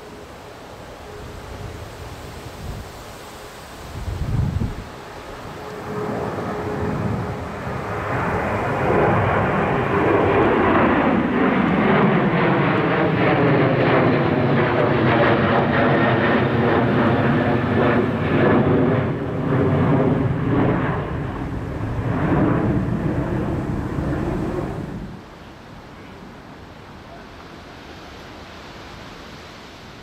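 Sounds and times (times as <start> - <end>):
jet engines passing close: 0.0 - 30.0.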